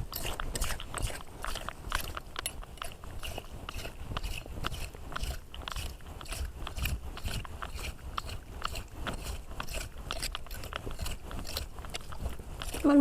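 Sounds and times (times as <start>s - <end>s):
rake scraping wet sand: 0.0s - 13.0s.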